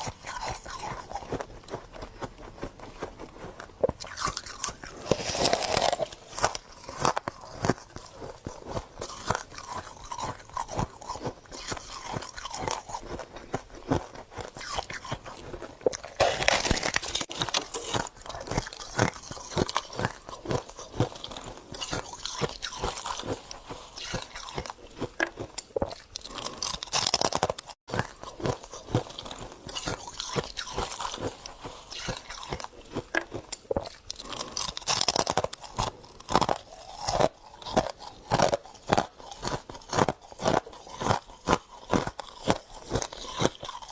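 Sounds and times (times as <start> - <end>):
crunching and chewing frost: 0.0 - 43.9.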